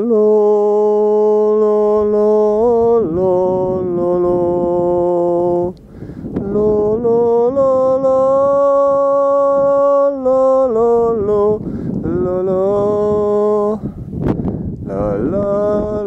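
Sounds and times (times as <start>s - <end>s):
man singing held notes: 0.0s - 14.0s, 14.8s - 16.0s.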